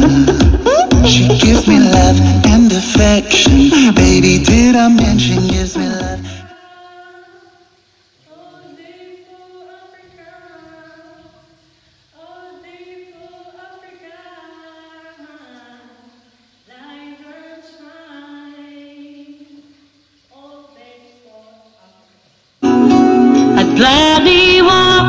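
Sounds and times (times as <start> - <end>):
person singing unaccompanied: 0.0 - 21.8, 22.6 - 25.0.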